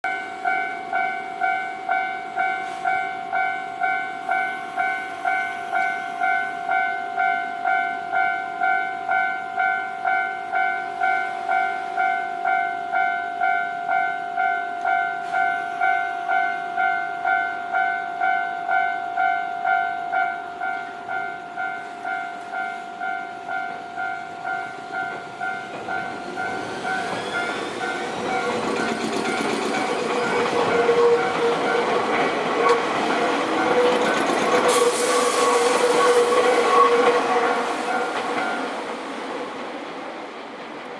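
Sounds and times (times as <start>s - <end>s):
electric train approaching: 0.0s - 40.9s.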